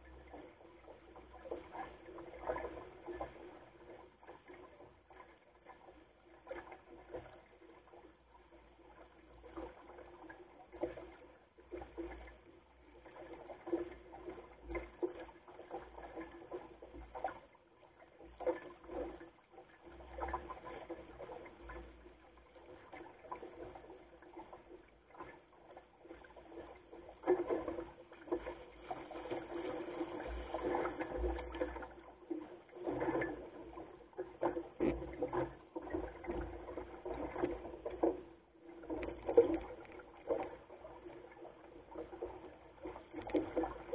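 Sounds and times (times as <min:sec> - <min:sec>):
water splashing against boat hull: 0:00.0 - 0:43.9.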